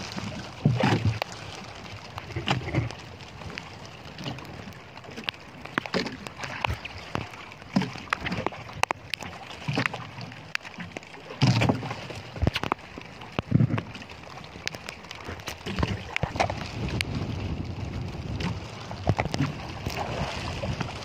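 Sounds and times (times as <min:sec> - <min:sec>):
water lapping against boat: 0:00.0 - 0:21.0.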